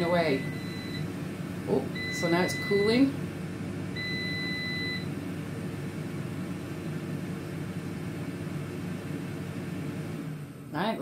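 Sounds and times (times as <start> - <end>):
air fryer fan whirring: 0.0 - 11.0.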